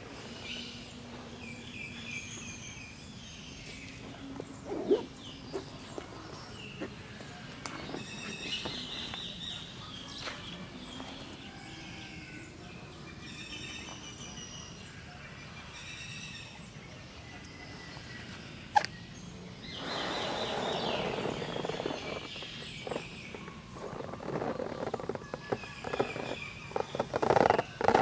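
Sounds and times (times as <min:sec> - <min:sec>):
even hiss of noise: 0:00.0 - 0:28.0
small birds chirping: 0:00.0 - 0:28.0.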